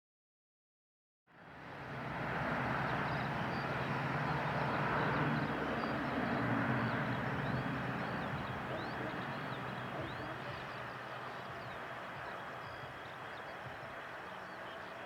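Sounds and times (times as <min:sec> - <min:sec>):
small birds chirping: 0:02.9 - 0:15.0.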